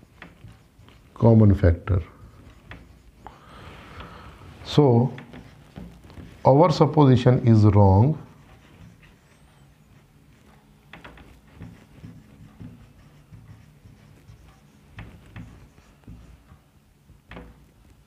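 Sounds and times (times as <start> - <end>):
low room hum: 0.0 - 18.0
marker writing on whiteboard: 0.0 - 18.0.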